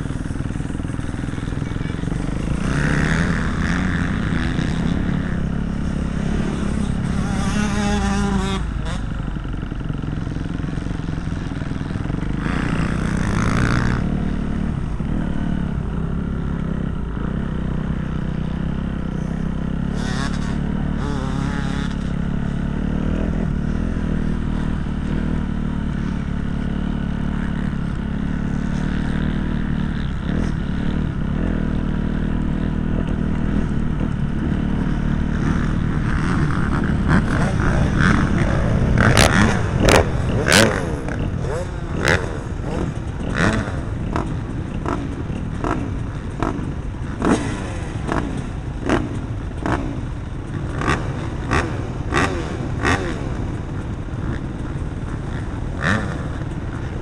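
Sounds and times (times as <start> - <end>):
bikes passing: 0.0 - 57.0
motocross bike engines revving: 0.0 - 57.0.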